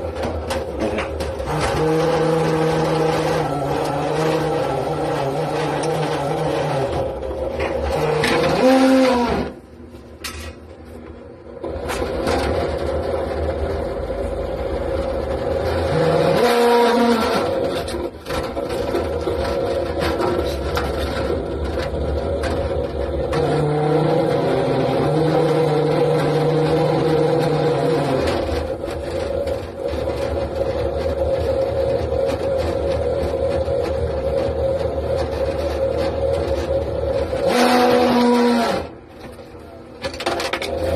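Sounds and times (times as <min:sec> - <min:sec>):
plastic sheeting scraping metal: 0:00.0 - 0:09.6, 0:15.5 - 0:40.9
machinery humming: 0:00.0 - 0:40.9.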